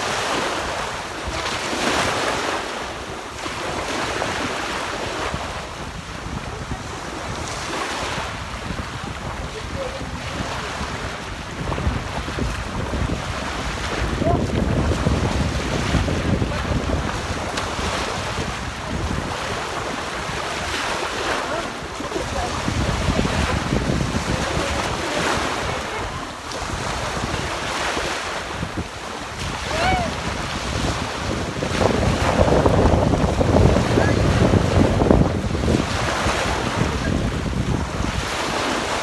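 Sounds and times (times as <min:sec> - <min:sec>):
small waves breaking on shore: 0:00.0 - 0:39.0
wind buffeting microphone: 0:00.0 - 0:39.0.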